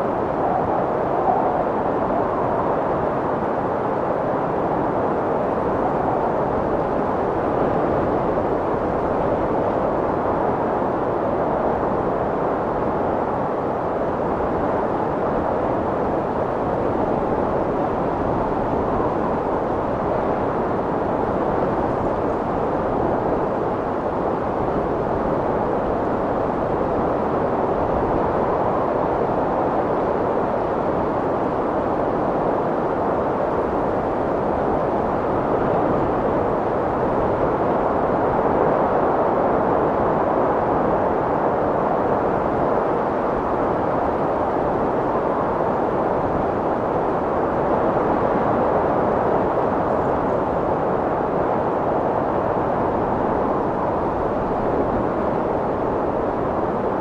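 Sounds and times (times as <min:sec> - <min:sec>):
strong wind blowing: 0:00.0 - 0:57.0.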